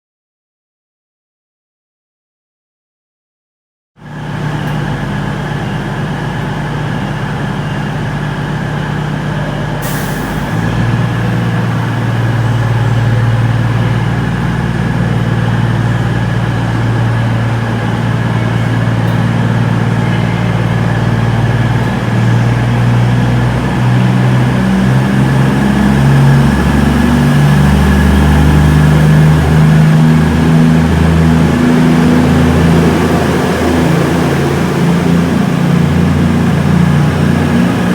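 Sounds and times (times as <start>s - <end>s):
diesel train engine running: 4.0s - 37.9s.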